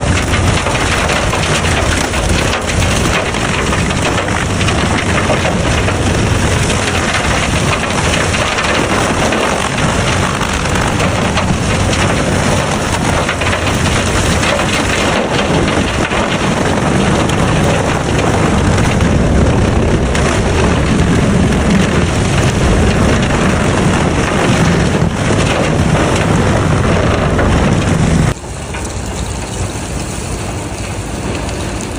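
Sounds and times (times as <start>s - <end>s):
disc wood chipper running: 0.0s - 31.9s.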